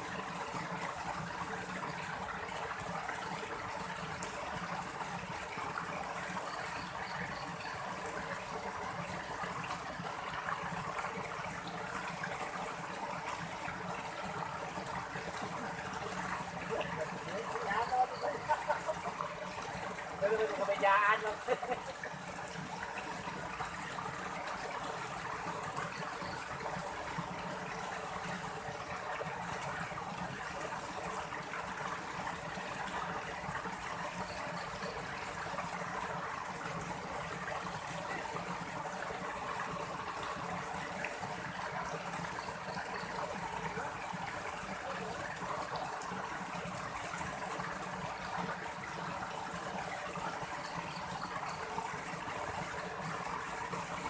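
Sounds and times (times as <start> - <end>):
running water stream: 0.0 - 54.0.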